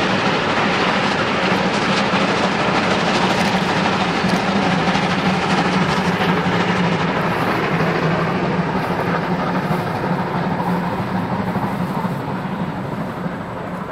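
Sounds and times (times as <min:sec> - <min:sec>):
freight train rumbling on rails: 0:00.0 - 0:13.9.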